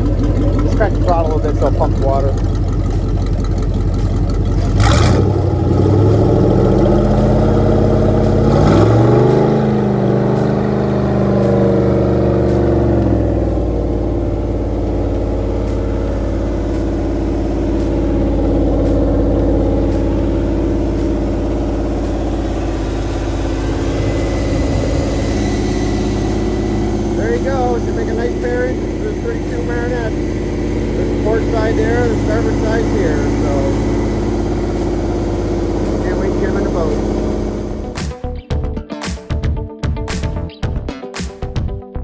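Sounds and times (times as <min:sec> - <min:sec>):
engine revving and idling: 0:00.0 - 0:38.7.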